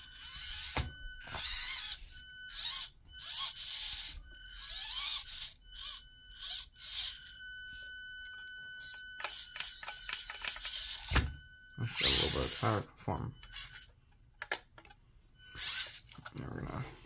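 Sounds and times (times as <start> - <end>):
high-pitched electronic whine: 0.0 - 13.9, 15.4 - 16.8
small motor and gears whirring: 0.0 - 16.9.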